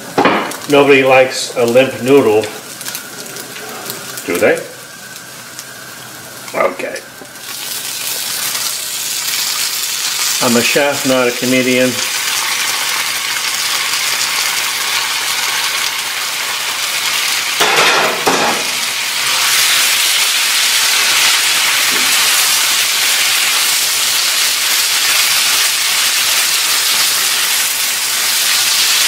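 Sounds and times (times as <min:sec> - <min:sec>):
stir-fry sizzling in a pan: 0:00.0 - 0:29.0.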